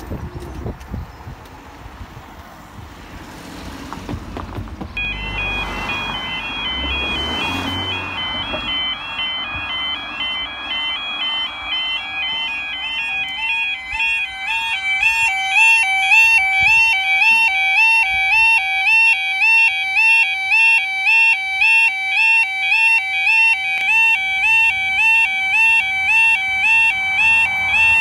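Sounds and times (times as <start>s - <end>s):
level crossing two-tone alarm: 5.0s - 28.0s.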